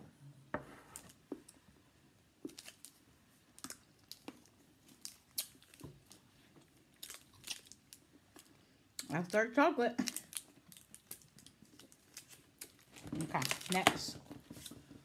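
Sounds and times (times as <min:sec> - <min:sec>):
foil wrapper crackling: 0:02.4 - 0:15.0.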